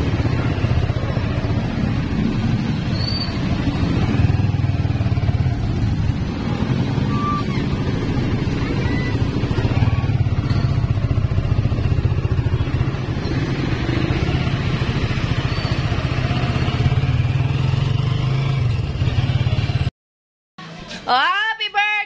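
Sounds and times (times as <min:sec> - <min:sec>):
motorcycle engine running: 0:00.0 - 0:19.9
road noise: 0:00.0 - 0:19.9.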